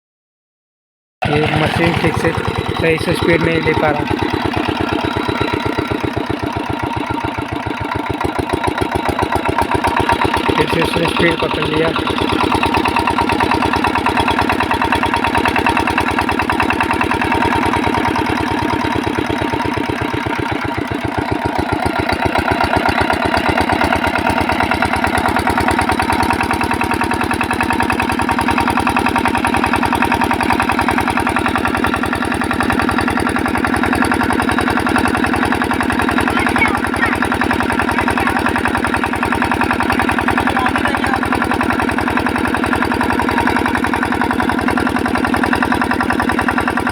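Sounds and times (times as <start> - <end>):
diesel engine running: 1.2 - 46.9.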